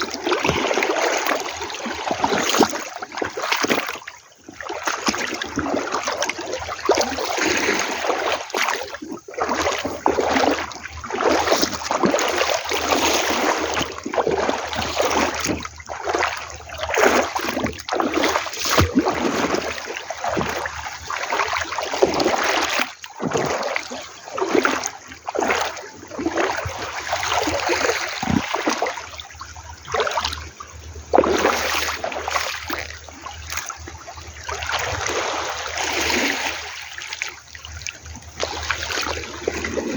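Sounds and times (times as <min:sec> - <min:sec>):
seawater splashing on shore: 0:00.0 - 0:04.0, 0:04.6 - 0:39.9.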